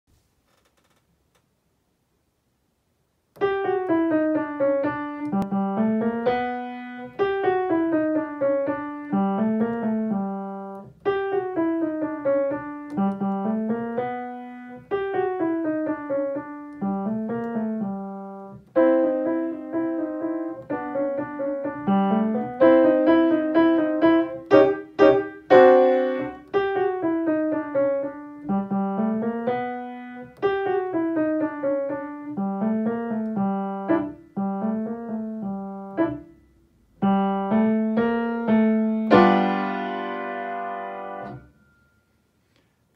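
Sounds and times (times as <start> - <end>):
solo acoustic piano: 3.3 - 42.2.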